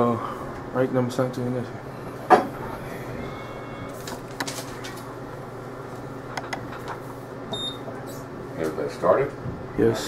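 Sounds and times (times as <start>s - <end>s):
low outdoor hum: 0.0s - 10.0s.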